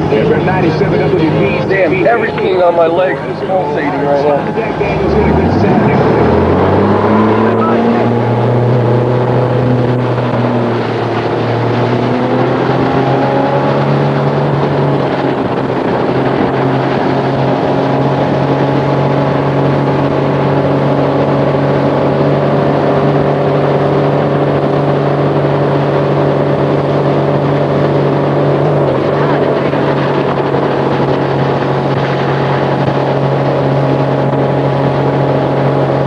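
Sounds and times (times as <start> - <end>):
boat engine running: 0.0 - 36.0
wind: 0.0 - 36.0.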